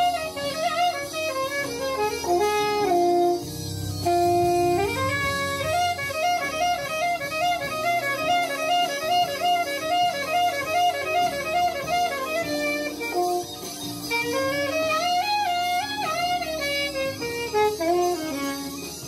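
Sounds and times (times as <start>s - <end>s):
alto saxophone playing: 0.0s - 19.0s.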